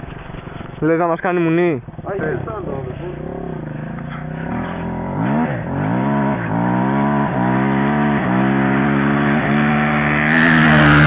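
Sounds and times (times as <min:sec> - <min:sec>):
dirt bike engine revving: 0:00.8 - 0:11.0.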